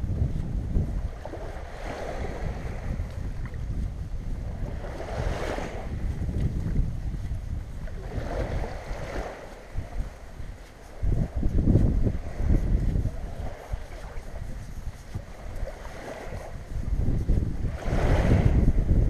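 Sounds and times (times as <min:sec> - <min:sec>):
small waves washing on sand: 0:00.0 - 0:19.0
wind rumbling on microphone: 0:00.0 - 0:19.0.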